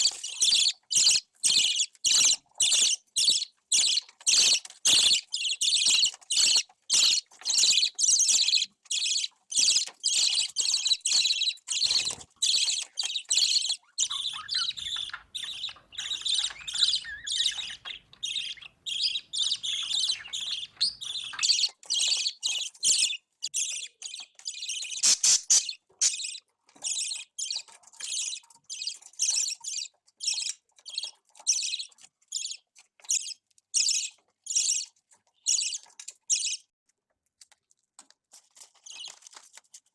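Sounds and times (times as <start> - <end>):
budgerigars chirping: 0.0 - 32.6.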